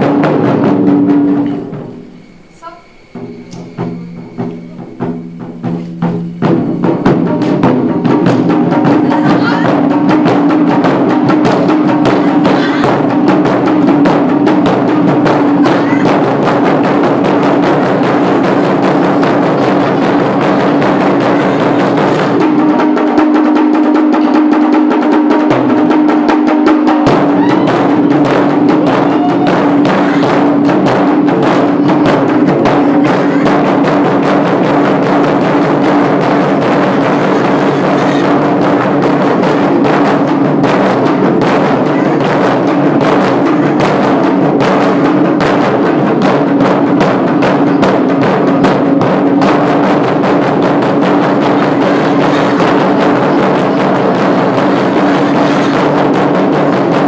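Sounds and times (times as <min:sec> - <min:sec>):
taiko drums beaten with sticks: 0:00.0 - 0:57.0.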